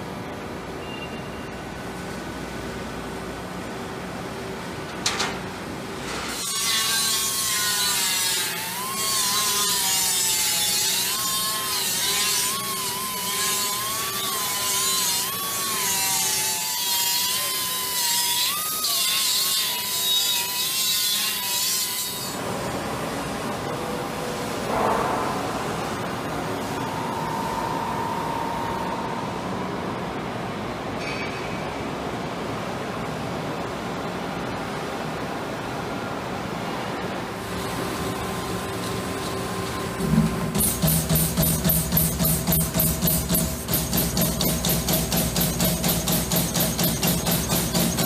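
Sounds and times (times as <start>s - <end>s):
shop machinery hum: 0.0s - 48.0s.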